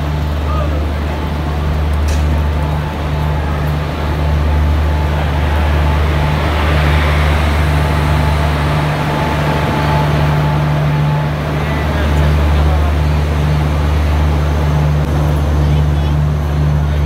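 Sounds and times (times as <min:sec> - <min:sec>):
electric locomotive rolling past: 0:00.0 - 0:17.0.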